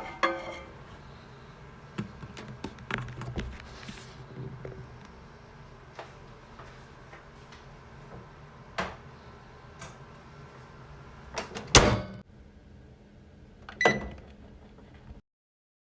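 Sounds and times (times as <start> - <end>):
microwave oven humming: 0.0 - 15.1.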